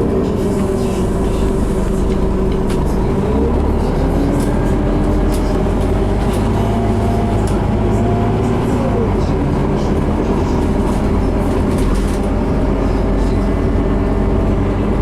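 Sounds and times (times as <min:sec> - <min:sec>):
bus engine humming: 0:00.0 - 0:15.0.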